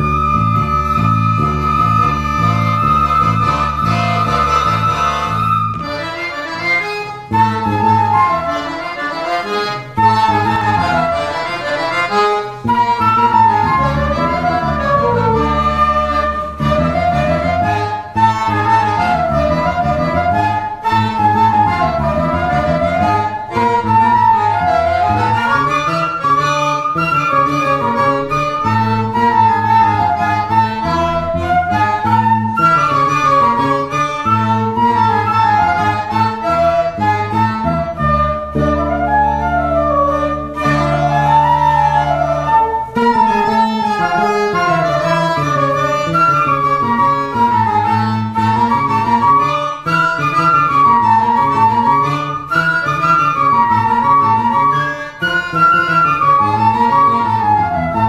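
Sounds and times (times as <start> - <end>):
electric bass line: 0.0 - 54.9
accordion chords: 0.0 - 58.0
flute melody: 0.0 - 58.0.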